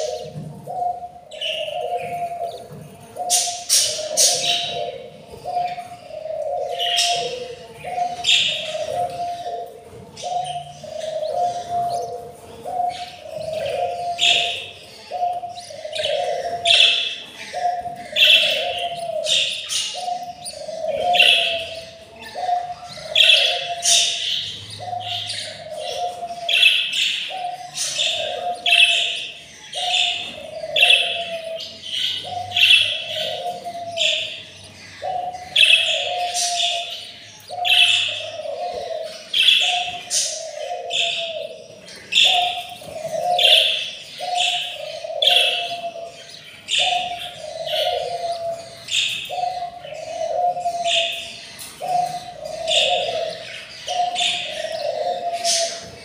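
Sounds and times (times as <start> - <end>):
budgies chirping: 0.0 - 56.0.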